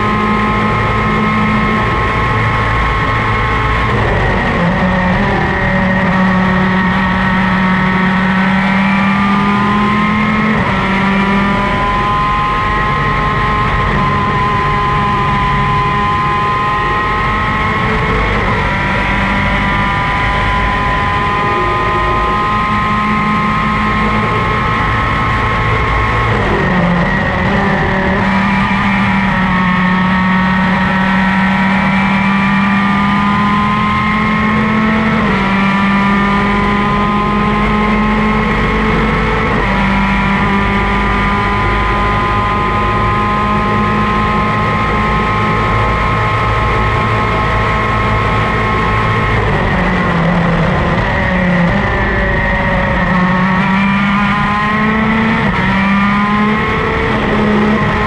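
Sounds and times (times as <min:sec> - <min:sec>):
racing kart engine at full throttle: 0:00.0 - 0:58.0.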